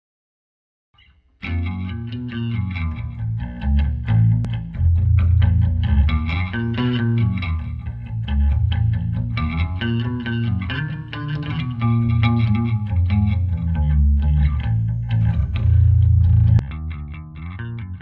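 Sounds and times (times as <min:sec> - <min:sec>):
electric bass plucked notes: 0:01.4 - 0:18.0.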